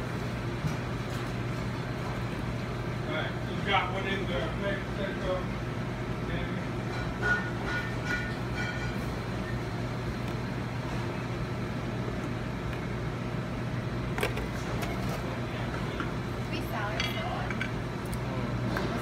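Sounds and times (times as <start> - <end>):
kitchen low hum: 0.0 - 19.0.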